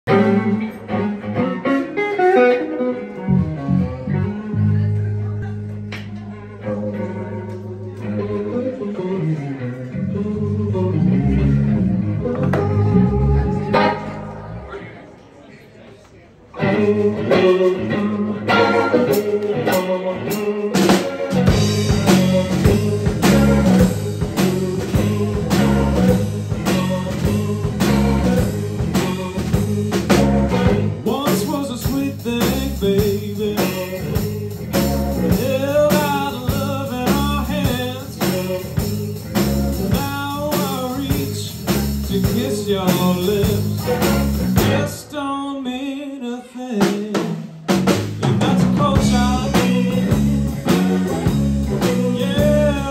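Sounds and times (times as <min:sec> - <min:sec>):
blues band playing: 0:00.0 - 0:15.2, 0:16.5 - 0:46.0, 0:46.6 - 0:52.9
person singing: 0:00.1 - 0:14.8, 0:16.6 - 0:52.9.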